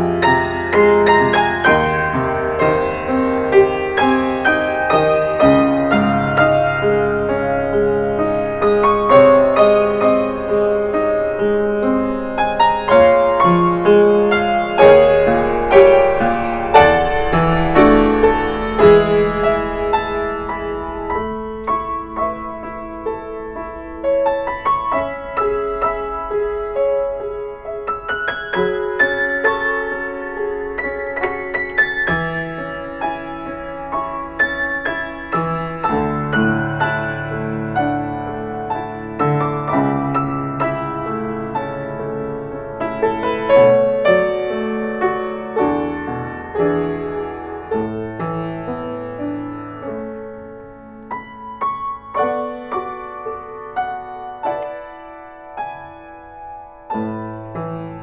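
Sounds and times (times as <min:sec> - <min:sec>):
upright piano playing: 0:00.0 - 0:58.0.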